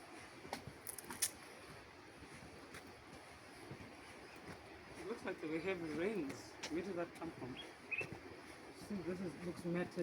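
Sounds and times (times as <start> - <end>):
faint outdoor background hiss: 0.0 - 10.0.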